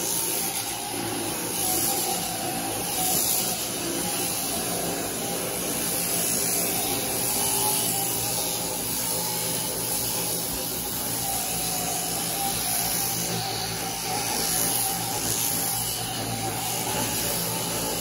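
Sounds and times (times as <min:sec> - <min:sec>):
shearing handpiece buzzing: 0:00.0 - 0:18.0.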